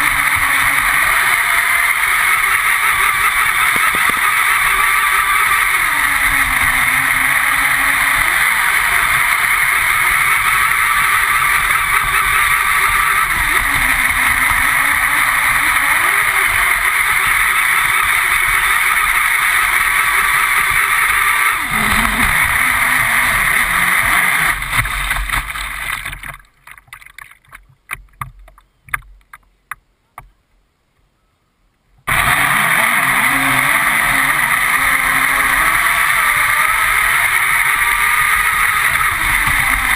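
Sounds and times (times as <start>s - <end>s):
boat motor: 0.0s - 26.5s, 32.1s - 39.9s
water rushing: 0.0s - 27.6s, 32.1s - 39.9s.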